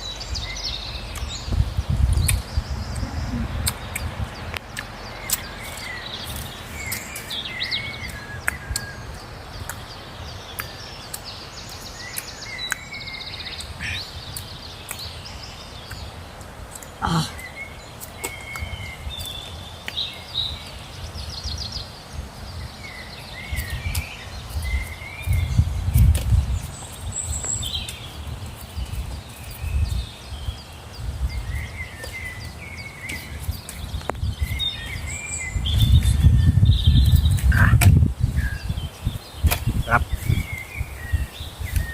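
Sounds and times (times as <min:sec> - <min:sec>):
birds chirping and trilling: 0:00.0 - 0:41.9.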